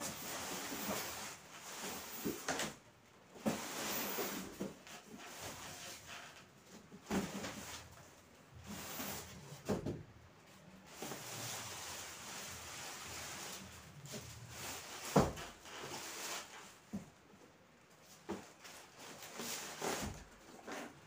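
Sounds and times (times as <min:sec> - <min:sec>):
cardboard rustling and scraping: 0:00.0 - 0:17.1, 0:18.0 - 0:21.0.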